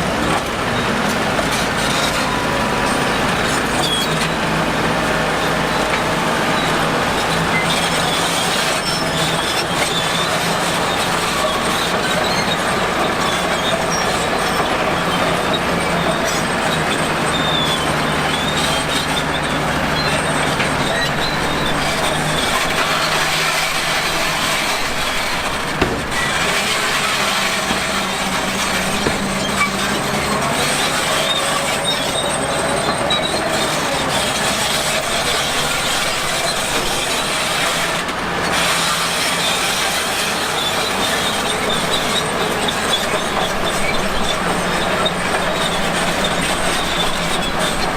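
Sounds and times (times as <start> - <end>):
diesel engine drone: 0.0 - 47.9
steel tracks clanking and squealing: 0.0 - 47.9.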